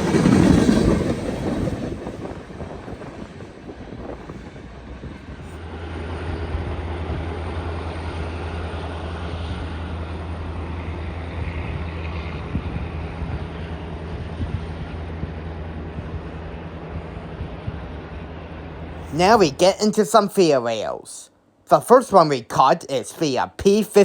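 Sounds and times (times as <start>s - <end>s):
low engine hum: 0.0s - 19.9s
freight train rumbling past: 0.0s - 21.2s.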